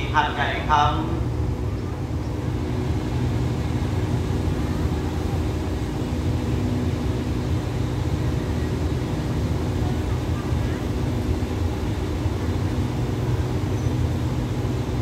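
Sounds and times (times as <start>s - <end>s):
diesel train engines idling: 0.0s - 15.0s.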